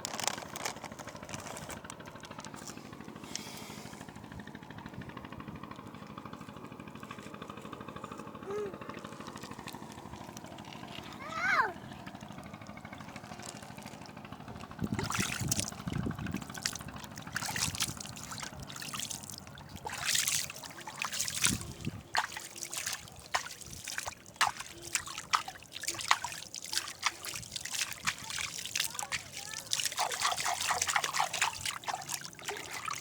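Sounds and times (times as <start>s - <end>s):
river water trickling and gurgling: 0.0s - 33.0s.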